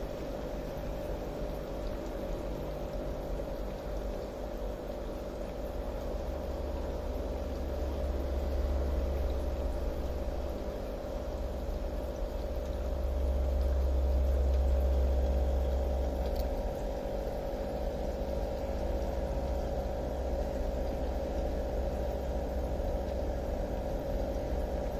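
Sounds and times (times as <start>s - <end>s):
constant mid-pitched tone: 0.0s - 24.9s
low mechanical hum: 0.0s - 24.9s.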